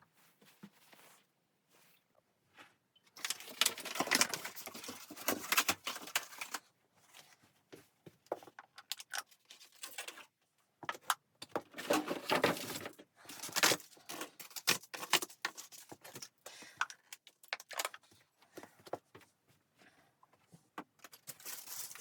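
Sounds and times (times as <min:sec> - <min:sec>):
rustling and clattering objects: 0:00.0 - 0:22.0.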